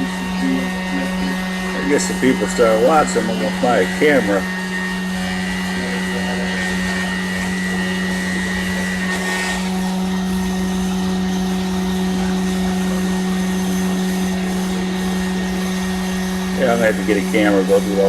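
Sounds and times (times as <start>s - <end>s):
machine motor humming: 0.0s - 18.0s.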